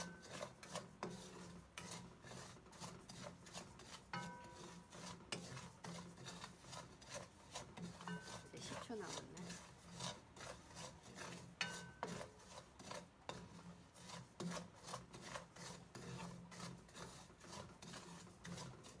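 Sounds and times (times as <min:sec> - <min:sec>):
spatula scraping salt in pan: 0:00.0 - 0:19.0.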